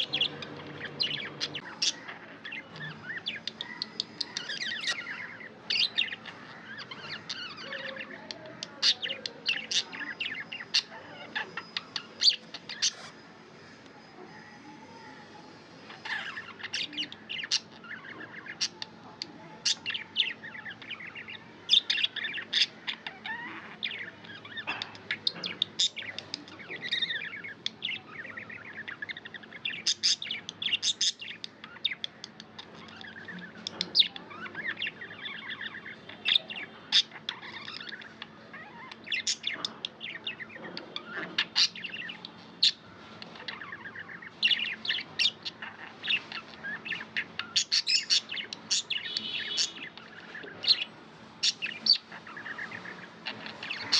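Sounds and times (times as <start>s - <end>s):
budgerigars chirping: 0.0s - 13.2s, 15.8s - 53.9s.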